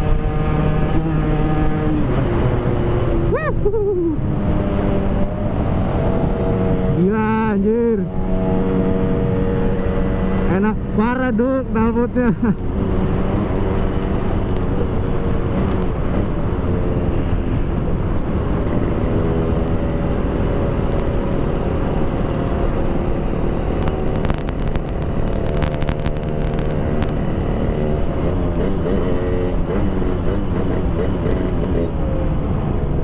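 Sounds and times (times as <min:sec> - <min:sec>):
exhaust crackles: 0:00.0 - 0:32.7.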